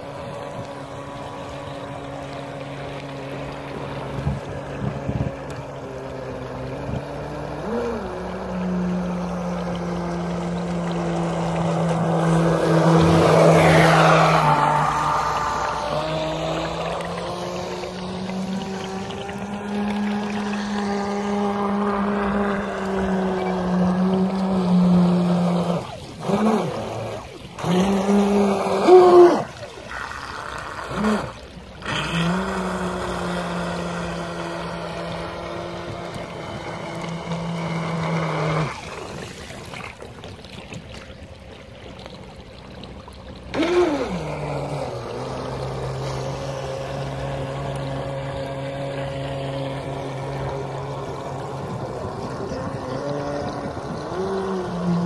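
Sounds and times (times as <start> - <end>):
toy boat motor whining: 0.0 - 55.0.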